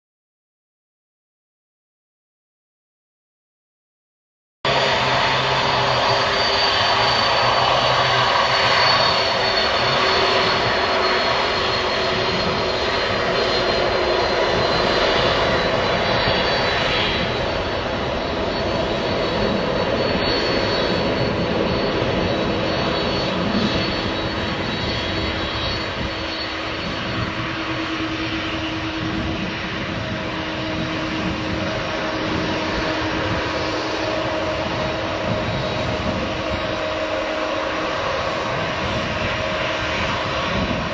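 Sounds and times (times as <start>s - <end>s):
jet engines taxiing: 4.7s - 40.9s.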